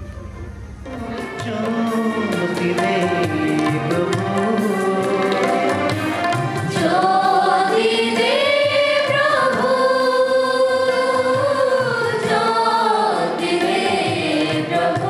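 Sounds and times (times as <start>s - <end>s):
drum strokes: 0.0s - 15.0s
voices singing devotional song: 0.8s - 15.0s.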